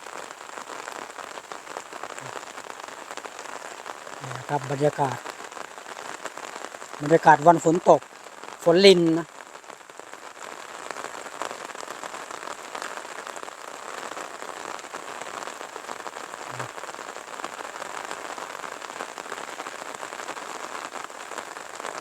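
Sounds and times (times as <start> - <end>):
light rain pattering: 0.0 - 22.0.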